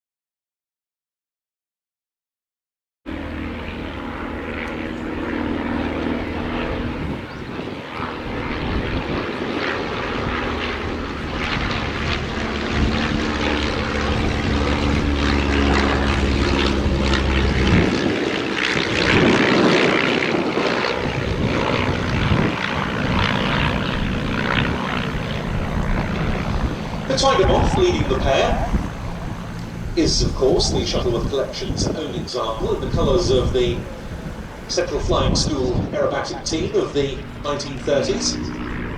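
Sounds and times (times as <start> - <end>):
propeller plane engines in flight: 3.1 - 38.9
rushing propeller and air: 3.1 - 38.9.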